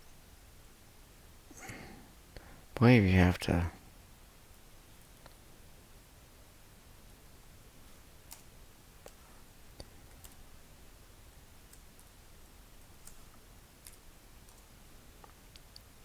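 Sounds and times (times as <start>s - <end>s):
low room noise: 0.0s - 16.0s.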